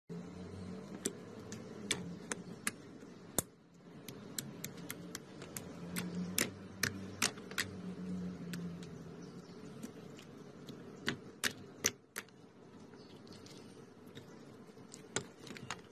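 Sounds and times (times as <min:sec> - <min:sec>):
slime squishing with pops and clicks: 0:00.9 - 0:15.9.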